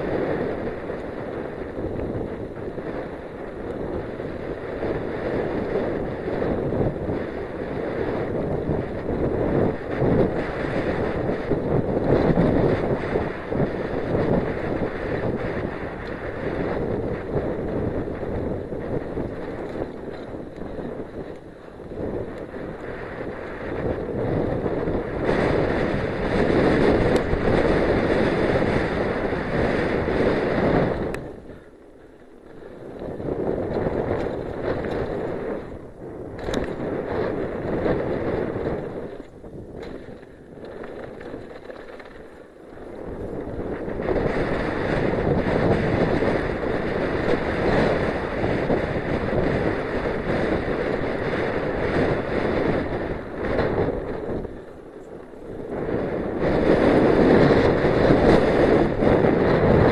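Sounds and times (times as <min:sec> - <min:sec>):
mountain bike rattling on dirt: 0:00.0 - 0:59.9
wind buffeting microphone: 0:00.0 - 0:59.9.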